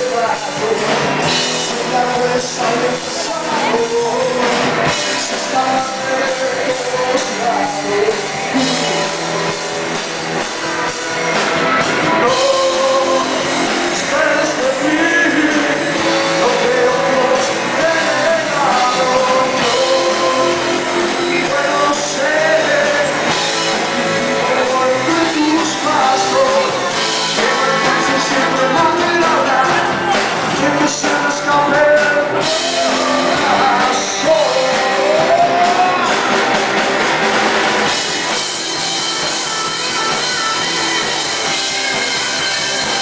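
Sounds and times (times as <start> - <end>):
lead singer: 0.0 - 43.0
live rock band: 0.0 - 43.0.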